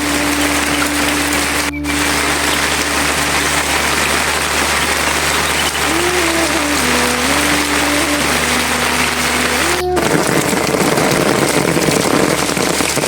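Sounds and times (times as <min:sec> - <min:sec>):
faint melody of held notes: 0:00.0 - 0:11.8
heavy rain falling: 0:00.0 - 0:13.0.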